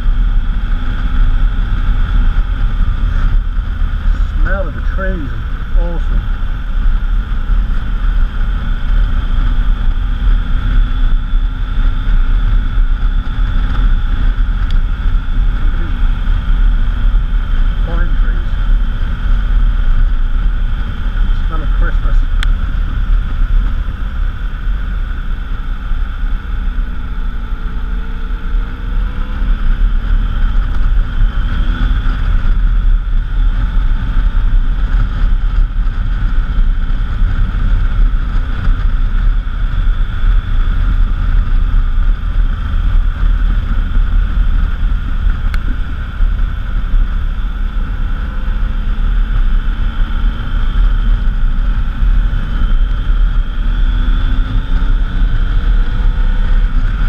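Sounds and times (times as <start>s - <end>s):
motorcycle engine running: 0.0s - 57.0s
wind rumble on camera: 0.0s - 57.0s.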